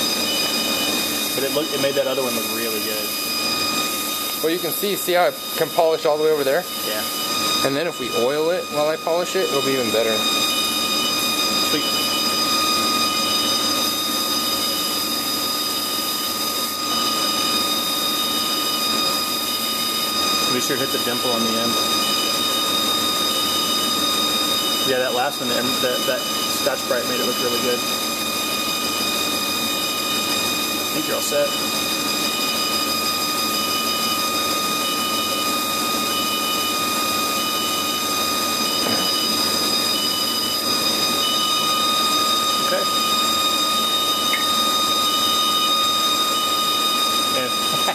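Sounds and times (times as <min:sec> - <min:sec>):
high pulsing beep: 0:00.0 - 0:47.9
lathe spindle whining: 0:00.0 - 0:47.9.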